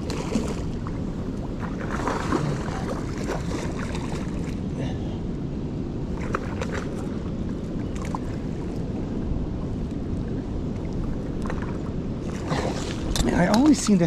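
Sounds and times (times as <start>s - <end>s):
water noise around a kayak: 0.0s - 14.0s
wind: 0.0s - 14.0s.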